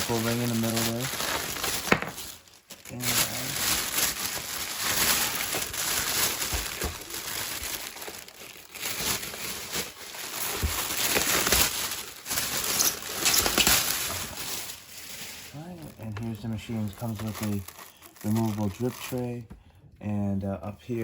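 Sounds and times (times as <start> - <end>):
packaging crinkling and rustling: 0.0 - 19.4.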